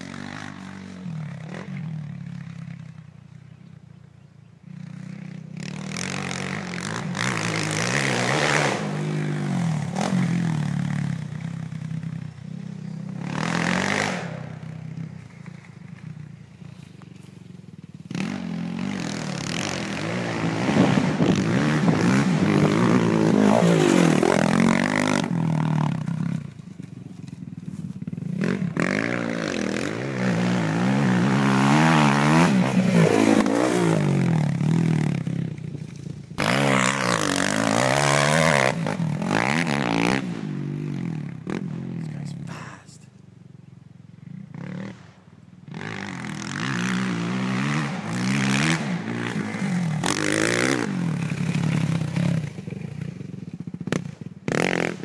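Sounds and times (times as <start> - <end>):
dirt bike engine revving: 0.0 - 3.4, 4.6 - 42.9, 44.2 - 55.0.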